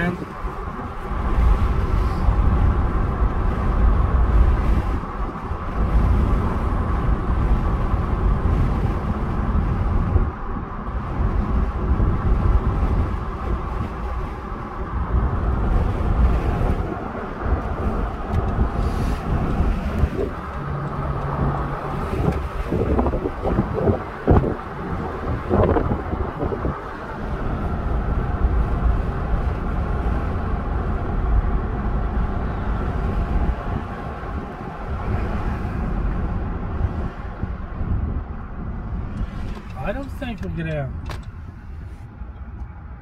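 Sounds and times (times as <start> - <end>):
road and engine rumble: 0.0 - 43.0
wind noise: 0.0 - 43.0.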